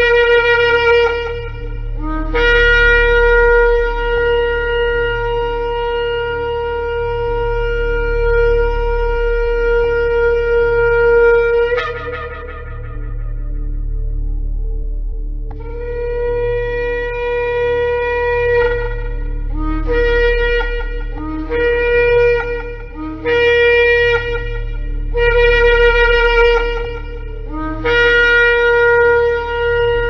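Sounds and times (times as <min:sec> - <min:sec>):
ram's horn blowing: 0:00.0 - 0:14.6, 0:15.5 - 0:30.0
low steady hum: 0:00.0 - 0:30.0.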